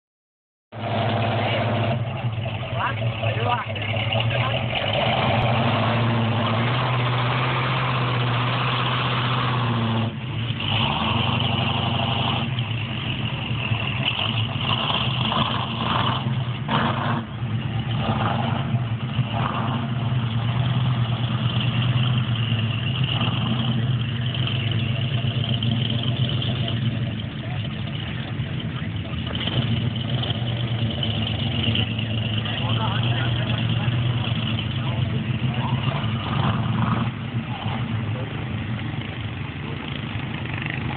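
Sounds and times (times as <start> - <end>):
pickup truck engine revving: 0.7 - 40.9.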